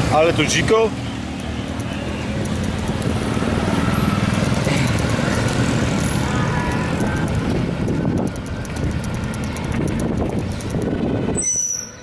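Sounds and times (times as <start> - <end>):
motorbikes: 0.0 - 12.0
street traffic rumble: 0.0 - 12.0
fast even ticking: 1.4 - 11.0
wind buffeting microphone: 1.7 - 11.5.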